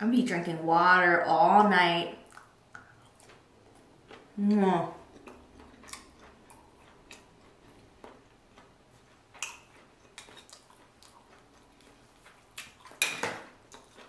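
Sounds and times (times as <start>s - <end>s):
soft chewing: 2.2s - 14.0s.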